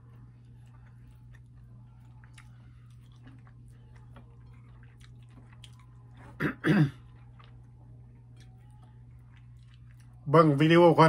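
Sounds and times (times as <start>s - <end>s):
person chewing: 0.0s - 10.3s
steady low hum: 0.0s - 11.0s.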